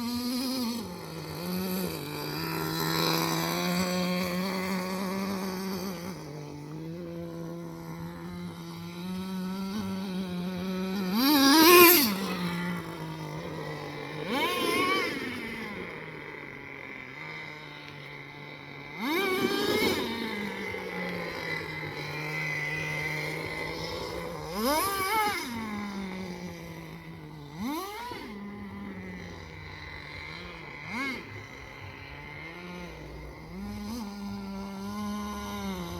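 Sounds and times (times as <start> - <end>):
small engine revving: 0.0 - 35.9.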